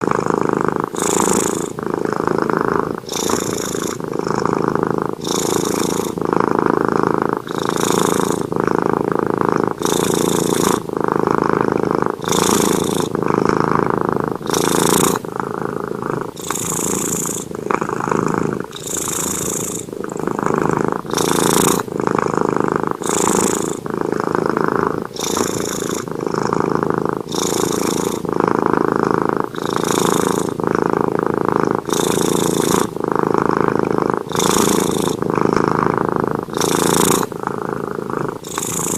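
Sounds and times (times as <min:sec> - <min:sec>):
cat snoring: 0:00.0 - 0:38.9.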